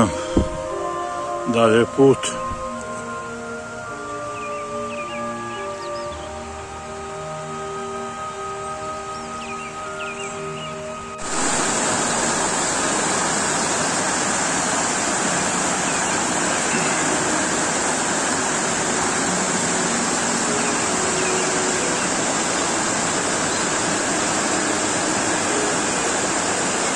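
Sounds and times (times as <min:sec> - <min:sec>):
stream rushing over rocks: 0:00.0 - 0:26.9.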